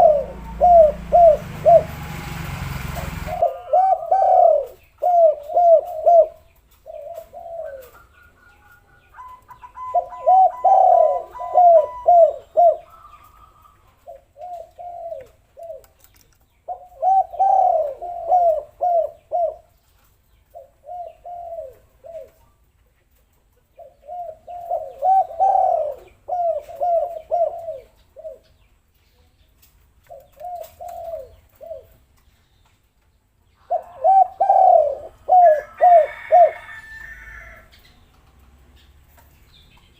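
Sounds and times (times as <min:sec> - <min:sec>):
doves cooing: 0:00.0 - 0:22.6, 0:23.8 - 0:28.6, 0:30.1 - 0:32.1, 0:33.6 - 0:39.9.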